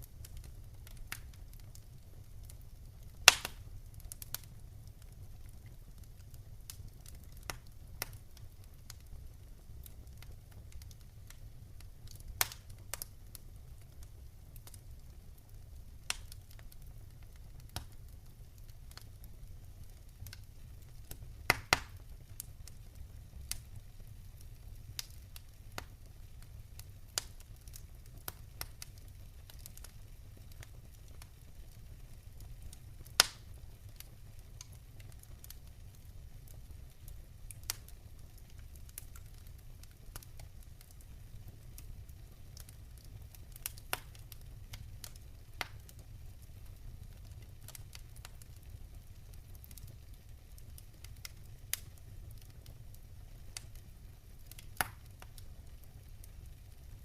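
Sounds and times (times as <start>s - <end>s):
low steady fire rumble: 0.0s - 57.0s
wood fire crackling and popping: 0.0s - 57.0s.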